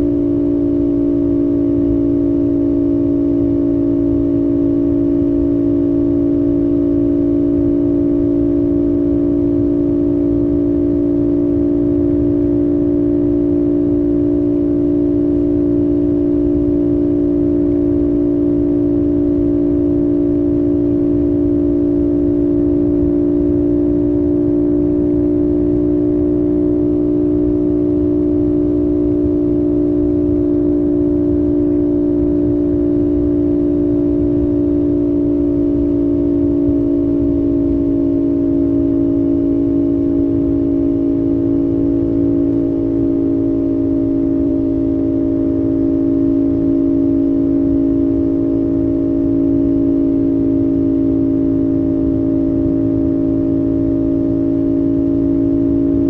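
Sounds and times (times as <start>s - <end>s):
motorcycle engine droning: 0.0s - 56.0s
road rumble: 0.0s - 56.0s.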